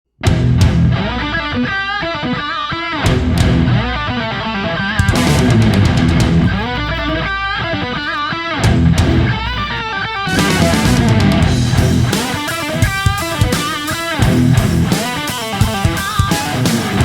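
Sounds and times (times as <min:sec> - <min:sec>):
drums: 0:00.2 - 0:07.6, 0:08.6 - 0:17.0
bass guitar: 0:00.2 - 0:17.0
electric guitar lead melody: 0:00.3 - 0:17.0.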